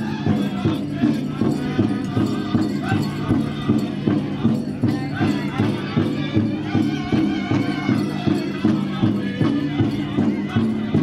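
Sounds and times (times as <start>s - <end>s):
group of voices chanting: 0.0s - 11.0s
large drum beating: 0.0s - 11.0s.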